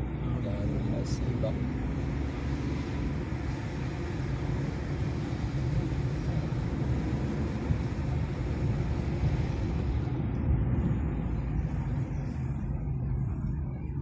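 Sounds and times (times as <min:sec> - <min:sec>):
road noise hiss: 0:00.0 - 0:13.4
car engine rumble: 0:00.0 - 0:14.0.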